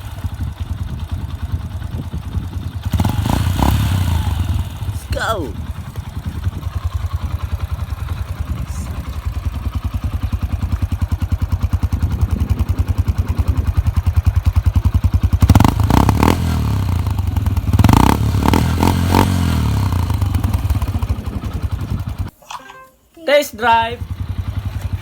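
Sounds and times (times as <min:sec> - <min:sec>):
motorcycle engine idling and revving: 0:00.0 - 0:22.3, 0:23.9 - 0:25.0.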